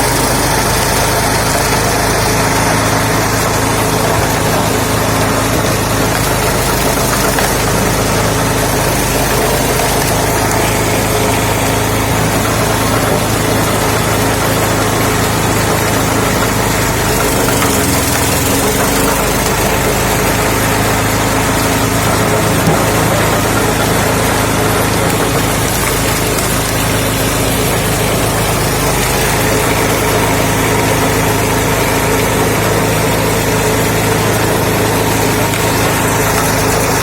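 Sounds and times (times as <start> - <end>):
petrol engine running steadily: 0.0 - 37.0.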